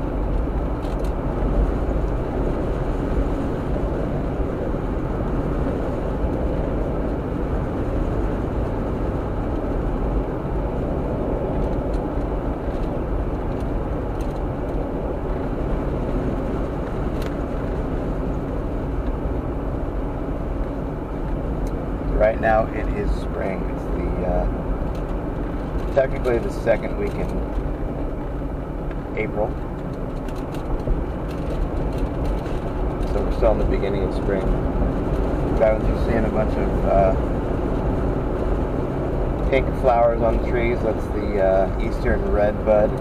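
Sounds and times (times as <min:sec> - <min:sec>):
car engine rumble: 0:00.0 - 0:43.0
tyre rumble on road: 0:00.0 - 0:43.0.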